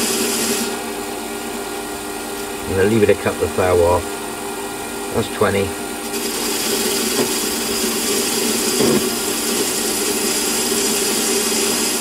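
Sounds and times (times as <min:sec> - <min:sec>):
lathe motor and gear hum: 0:00.0 - 0:12.0.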